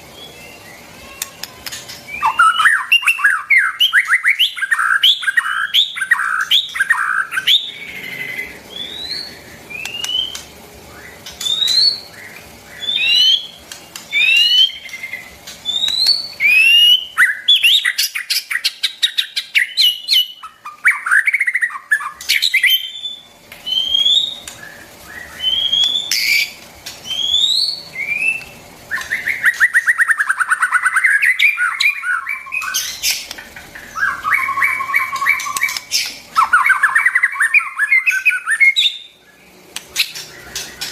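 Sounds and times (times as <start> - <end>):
bird harsh buzzy rattling: 0.8 - 3.8, 4.6 - 18.0, 21.4 - 40.9
bird whistling: 2.1 - 40.9.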